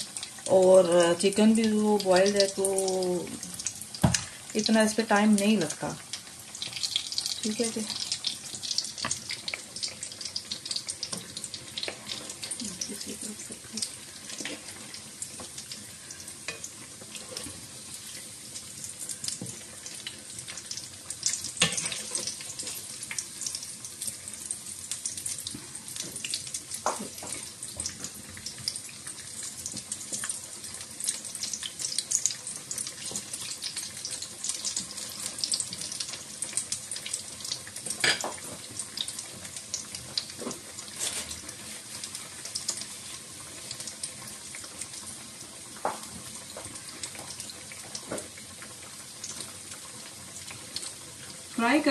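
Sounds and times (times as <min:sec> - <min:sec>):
food sizzling in hot oil: 0:00.0 - 0:51.9.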